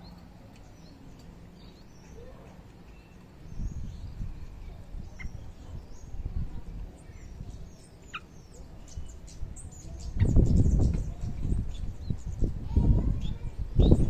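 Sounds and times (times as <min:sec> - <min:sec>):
low rumbling background noise: 0:00.0 - 0:14.0
songbirds chirping: 0:00.0 - 0:14.0.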